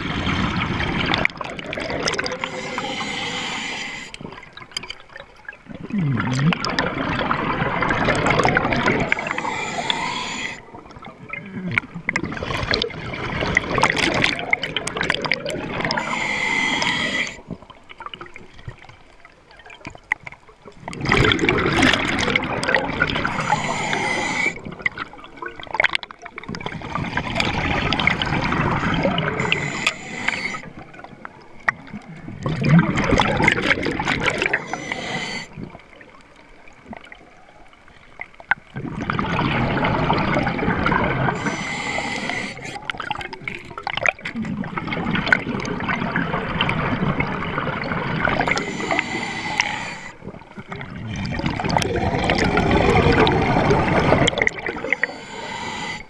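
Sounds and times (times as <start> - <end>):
underwater exhaled bubbles rushing: 0.0 - 18.9, 19.6 - 37.4, 38.7 - 56.0.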